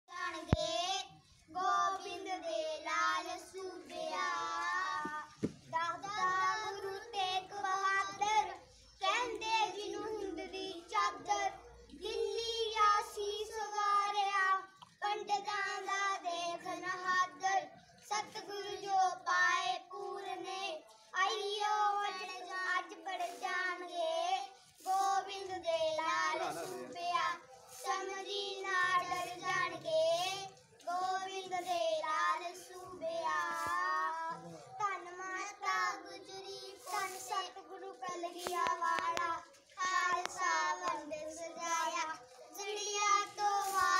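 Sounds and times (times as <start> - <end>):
boys singing a hymn: 0.1 - 43.9.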